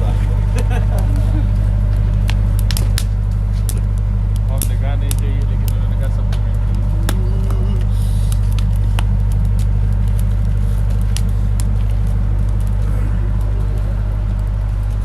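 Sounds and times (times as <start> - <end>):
bonfire crackling and popping: 0.0 - 15.0
low steady rumble: 0.0 - 15.0.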